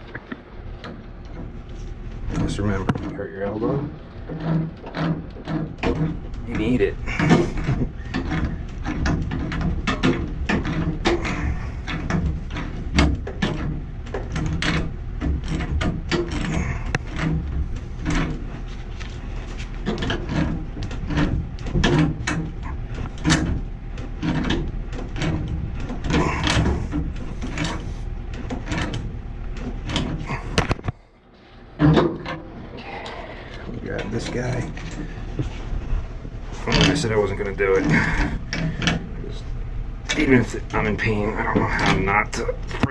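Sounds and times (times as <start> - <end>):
constant low hum: 0.0 - 42.9.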